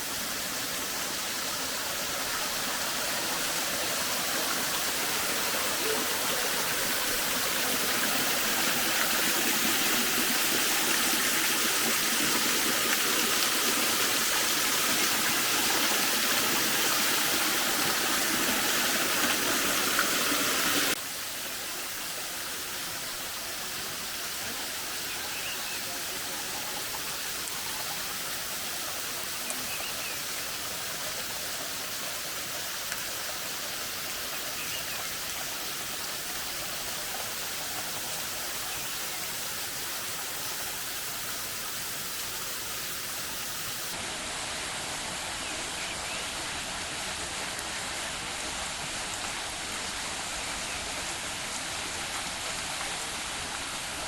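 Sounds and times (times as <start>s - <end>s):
rushing river water: 0.0s - 54.0s.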